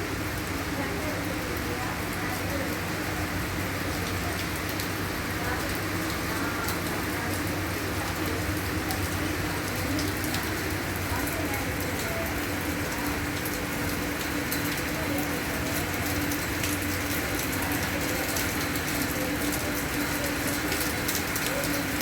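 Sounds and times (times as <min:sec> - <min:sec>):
rain falling: 0:00.0 - 0:22.0
raindrops ticking on hard surfaces: 0:00.0 - 0:22.0.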